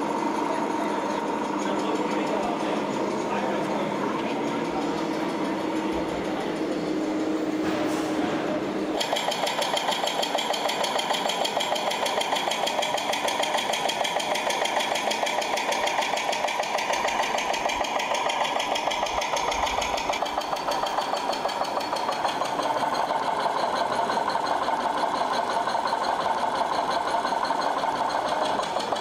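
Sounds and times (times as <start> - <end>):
model vehicle engine chugging: 0.0 - 7.6, 8.4 - 29.0.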